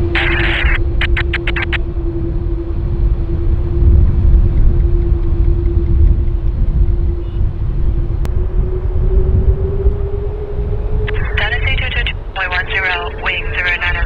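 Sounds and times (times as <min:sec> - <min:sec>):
jet engine whine: 0:00.0 - 0:14.0
jet engines rumbling: 0:00.0 - 0:14.0.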